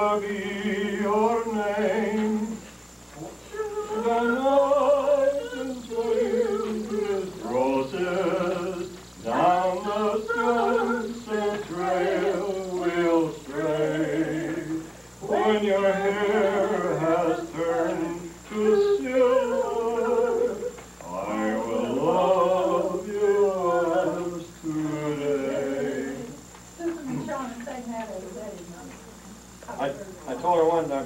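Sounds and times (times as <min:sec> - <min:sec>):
man singing: 0:00.0 - 0:02.7, 0:03.3 - 0:26.4.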